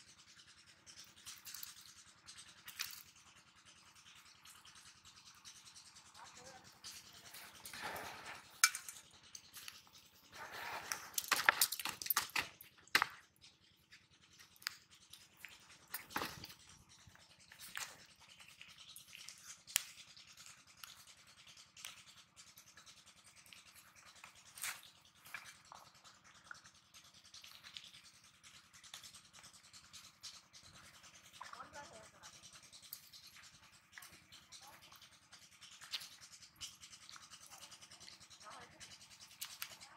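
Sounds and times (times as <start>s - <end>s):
scratching and rustling on plastic: 0.0s - 39.9s.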